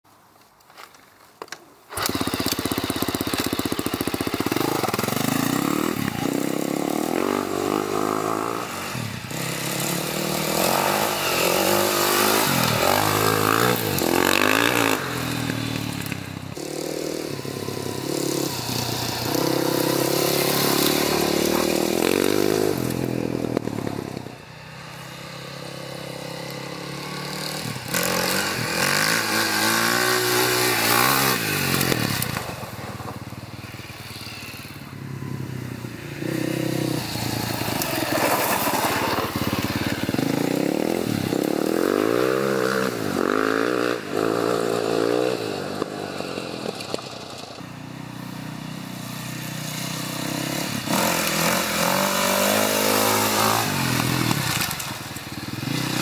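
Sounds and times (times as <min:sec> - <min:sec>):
dirt bike engine revving: 0:01.9 - 0:32.7, 0:33.8 - 0:56.0.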